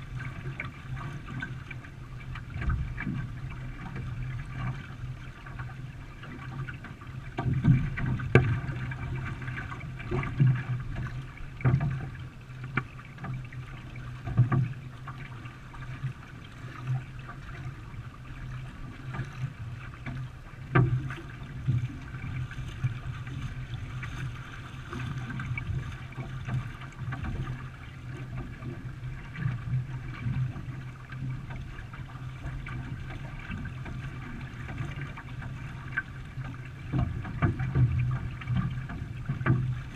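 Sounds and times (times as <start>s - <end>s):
water noise: 0.0s - 39.9s
paddle knocking against hull: 0.1s - 39.9s.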